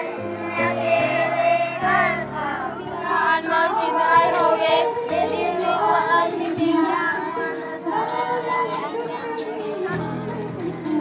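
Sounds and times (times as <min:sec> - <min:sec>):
women and children singing a hymn: 0:00.0 - 0:11.0.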